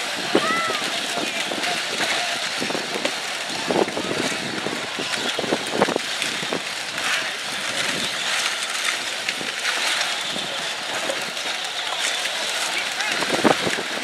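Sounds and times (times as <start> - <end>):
toy car wheels on gravel: 0.0 - 14.0.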